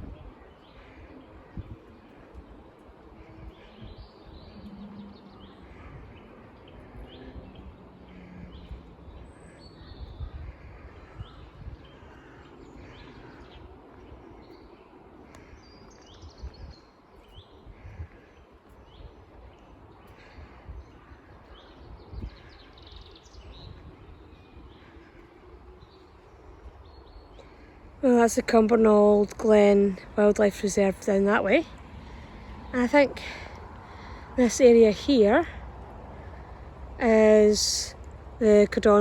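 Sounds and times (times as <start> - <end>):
low outdoor rumble: 0.0 - 39.0
small birds chirping: 0.0 - 39.0.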